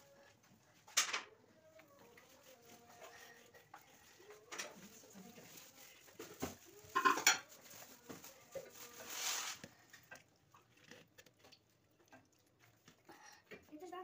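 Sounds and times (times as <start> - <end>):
citrus juicer scraping: 1.7 - 14.0.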